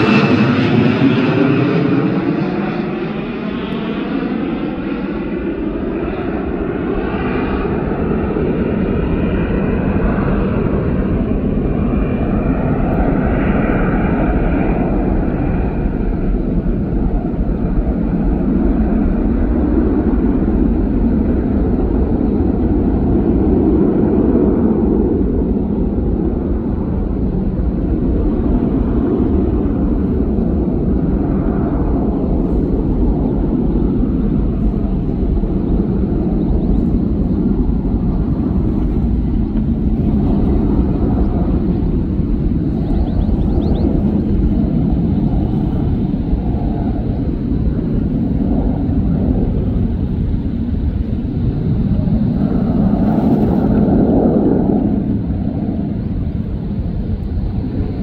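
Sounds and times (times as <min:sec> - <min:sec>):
jet engine whine: 0:00.0 - 0:58.0
jet engines deep rumble: 0:00.0 - 0:58.0.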